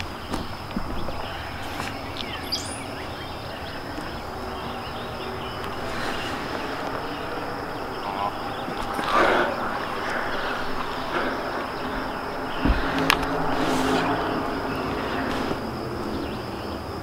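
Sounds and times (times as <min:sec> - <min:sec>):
bird chirping: 0:00.0 - 0:17.0
high-pitched insect drone: 0:00.0 - 0:17.0.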